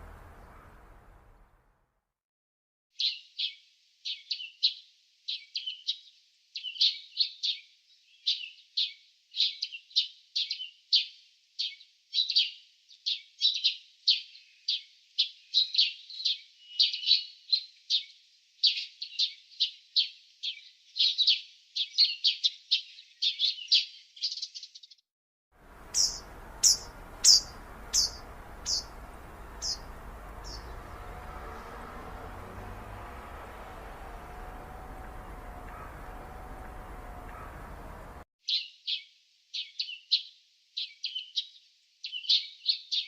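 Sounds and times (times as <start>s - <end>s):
small songbird chirping: 3.0s - 25.0s, 25.6s - 43.0s.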